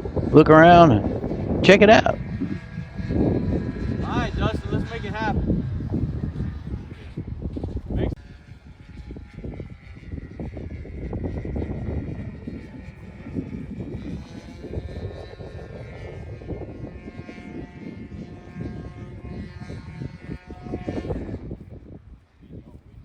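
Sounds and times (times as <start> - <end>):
model airplane motor whining: 0.0 - 23.0
wind gusting on microphone: 0.0 - 23.0.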